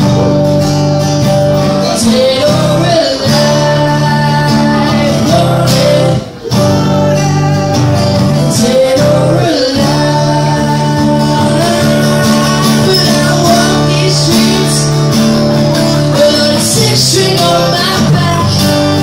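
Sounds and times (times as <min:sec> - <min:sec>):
acoustic guitar strummed: 0:00.0 - 0:19.0
person singing: 0:01.6 - 0:19.0.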